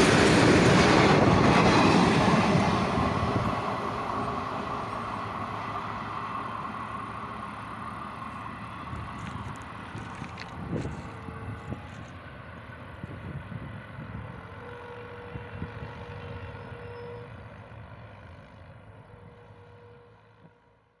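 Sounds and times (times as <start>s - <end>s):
train wheels rumbling on rails: 0.0s - 20.5s.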